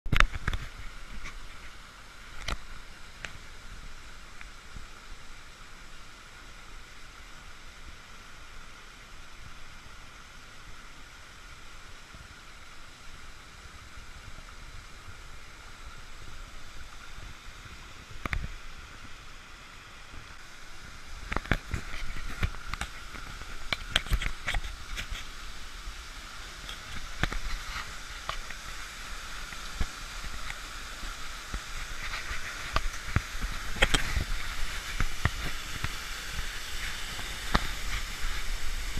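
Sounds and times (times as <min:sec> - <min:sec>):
waterfall rushing: 0:00.6 - 0:38.9.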